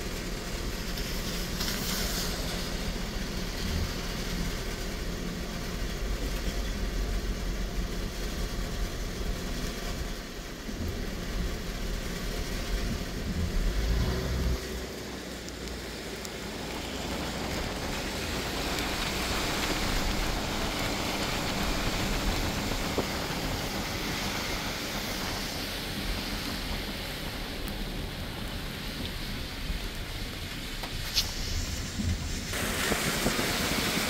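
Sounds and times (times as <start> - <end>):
heavy rain on street: 0.0 - 34.0
vehicles on wet road: 0.0 - 34.0.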